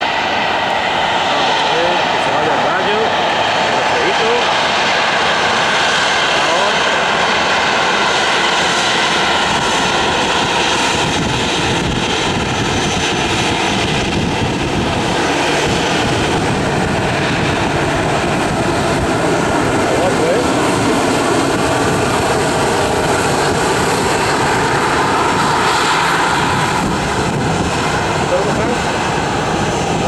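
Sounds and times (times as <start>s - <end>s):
constant whining tones: 0.0s - 30.0s
jet engines running: 0.0s - 30.0s.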